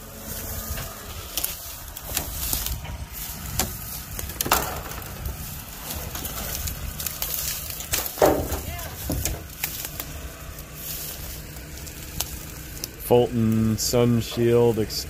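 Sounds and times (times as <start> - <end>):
low steady rumble: 0.0 - 15.0
twigs snapping underfoot: 0.7 - 13.0.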